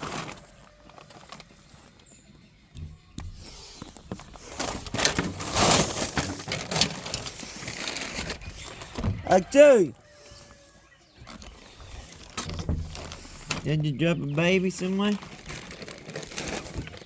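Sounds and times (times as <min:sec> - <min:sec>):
poultry scuffling and rustling: 0:00.0 - 0:17.0.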